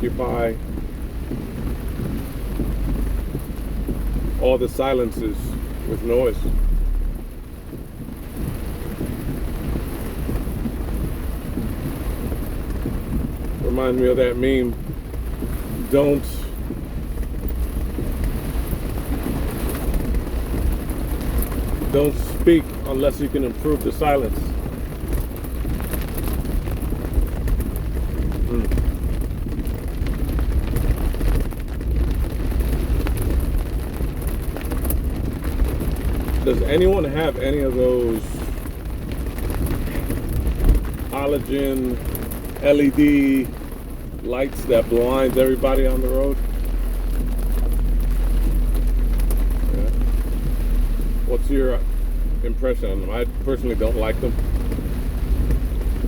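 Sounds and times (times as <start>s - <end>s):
heavy rain on a car: 0.0s - 56.0s
low rumble: 0.0s - 56.0s.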